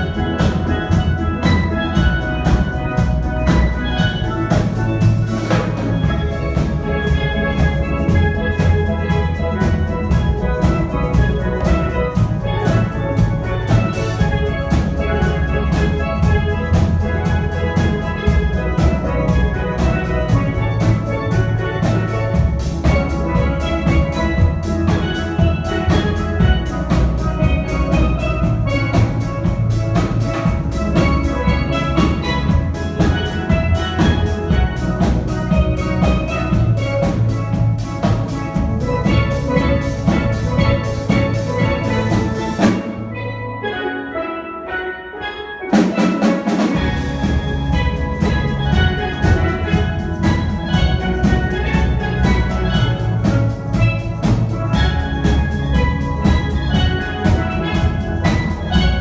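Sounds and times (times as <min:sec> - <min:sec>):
steel pan band playing: 0:00.0 - 0:59.0.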